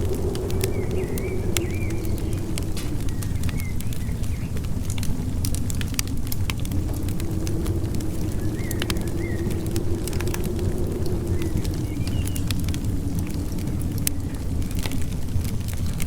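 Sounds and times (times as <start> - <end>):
low rumble of wind: 0.0 - 16.0
wood fire crackling and popping: 0.0 - 16.0.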